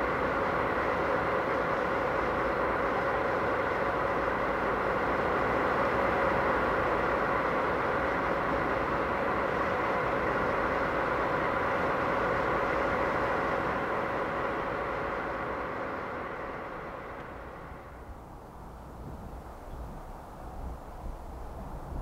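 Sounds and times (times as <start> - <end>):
diesel locomotive engines running: 0.0 - 22.0.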